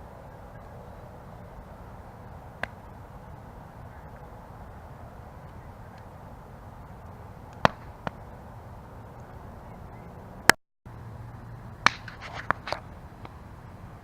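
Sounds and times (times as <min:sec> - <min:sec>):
campfire crackling and popping: 0:00.0 - 0:10.6, 0:11.6 - 0:14.0.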